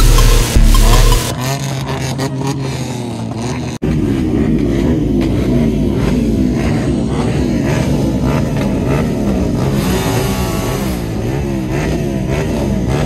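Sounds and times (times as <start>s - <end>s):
loud engines revving: 0.0s - 13.0s.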